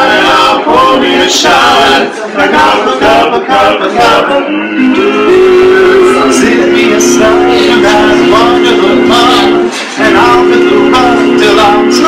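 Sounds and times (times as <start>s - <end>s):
male quartet singing a cappella: 0.0s - 12.0s.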